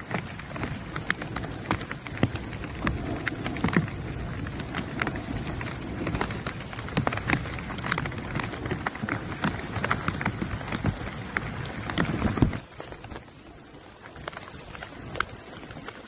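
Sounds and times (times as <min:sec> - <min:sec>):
steady low rumble: 0:00.0 - 0:13.9
raindrops ticking: 0:00.0 - 0:16.0.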